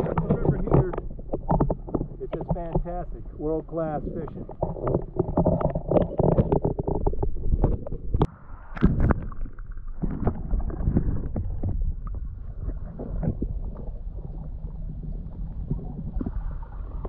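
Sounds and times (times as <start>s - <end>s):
underwater current rumble: 0.0s - 17.0s
water splashing: 0.0s - 17.0s.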